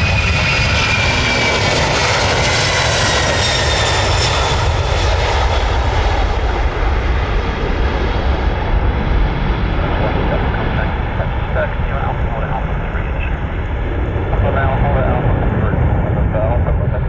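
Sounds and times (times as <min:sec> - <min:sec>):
jet engines passing by: 0:00.0 - 0:17.0.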